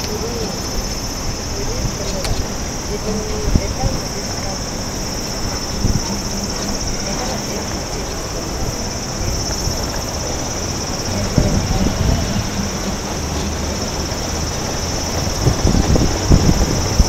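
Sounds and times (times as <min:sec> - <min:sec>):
cicadas droning: 0:00.0 - 0:17.0
wind rumble on the microphone: 0:00.0 - 0:17.0.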